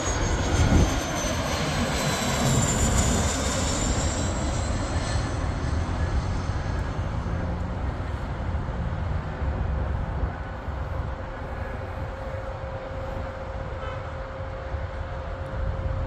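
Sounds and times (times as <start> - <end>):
jet engines rumbling and whining: 0.0 - 16.0.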